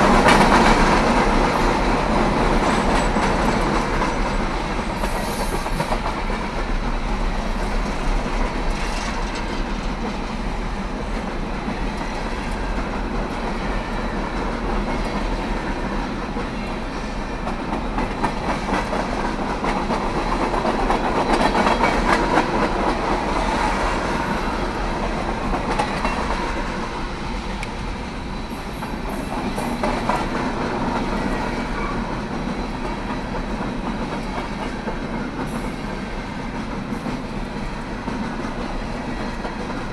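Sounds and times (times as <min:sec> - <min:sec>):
freight train wheels rumbling and clattering: 0:00.0 - 0:39.9.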